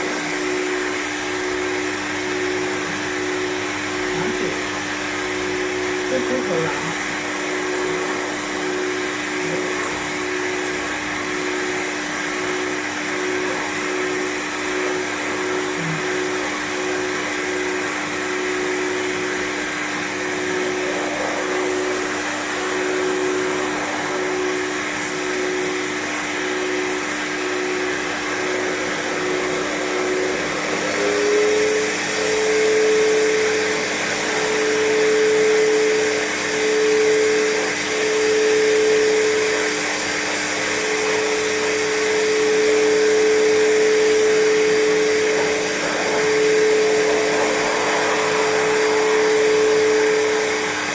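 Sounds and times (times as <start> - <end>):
hair dryer blowing air: 0.0 - 50.9.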